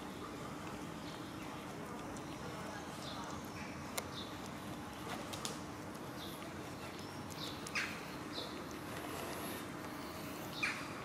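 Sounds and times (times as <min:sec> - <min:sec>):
cats chewing: 0:00.0 - 0:11.0.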